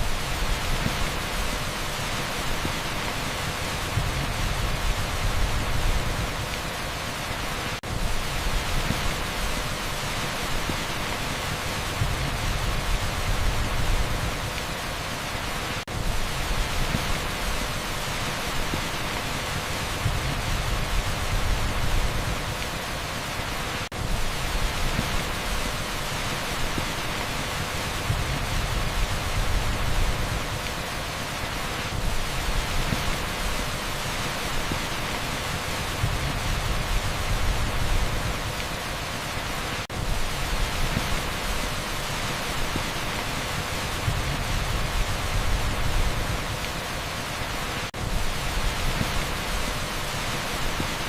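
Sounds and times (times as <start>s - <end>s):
heavy downpour: 0.0s - 51.0s.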